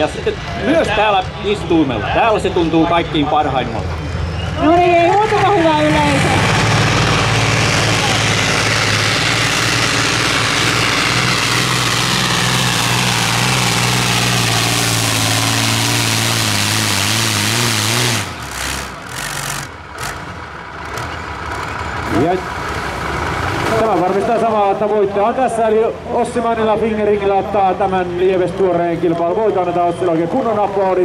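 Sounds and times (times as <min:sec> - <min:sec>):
low engine rumble: 0:00.0 - 0:31.0
tractor diesel engine straining: 0:00.0 - 0:31.0.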